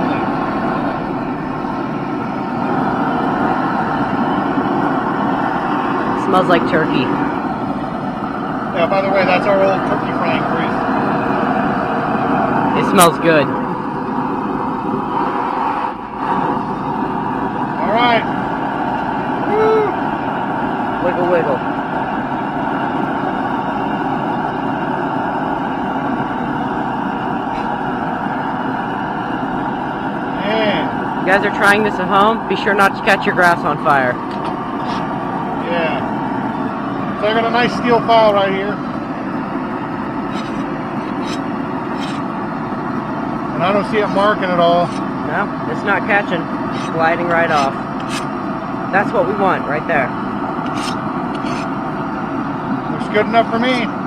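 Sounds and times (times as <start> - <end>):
forge rushing roar: 0.0 - 54.0.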